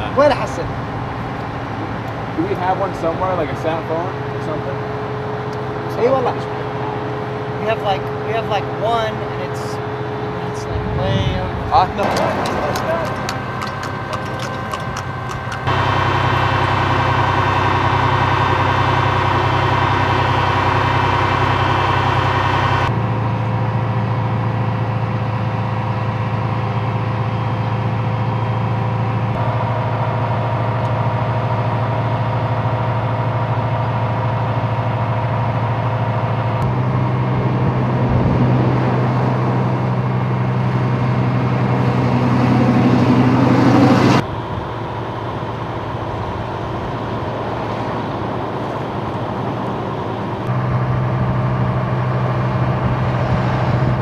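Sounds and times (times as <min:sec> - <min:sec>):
heavy vehicle engine humming: 0:00.0 - 0:54.0.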